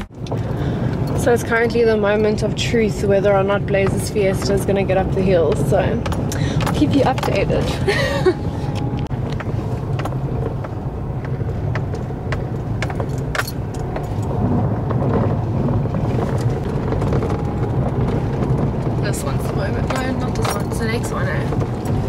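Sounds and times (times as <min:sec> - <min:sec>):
car engine under load: 0:00.0 - 0:22.0
road noise: 0:00.0 - 0:22.0.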